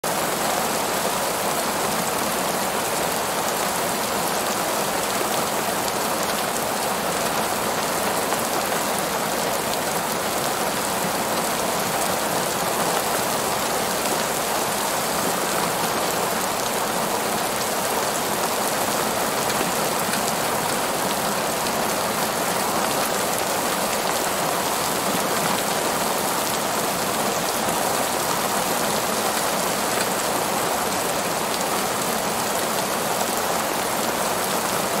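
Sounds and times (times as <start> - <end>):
heavy rain on pavement: 0.0 - 35.0.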